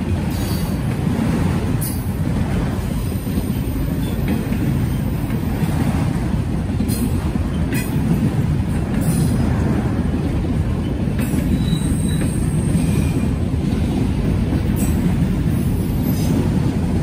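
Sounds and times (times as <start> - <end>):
freight train cars rumbling: 0.0 - 17.0.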